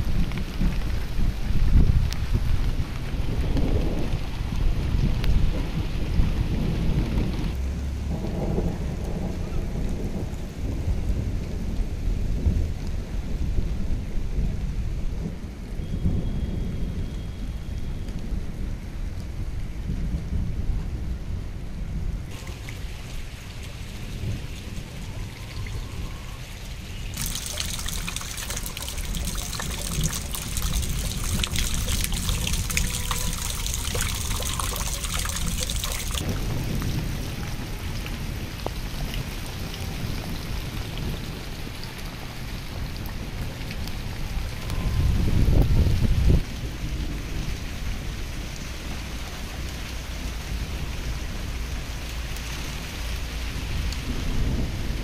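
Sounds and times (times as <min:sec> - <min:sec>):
low rumble of thunder: 0:00.0 - 0:52.1, 0:52.7 - 0:55.0
steady rain: 0:00.0 - 0:55.0.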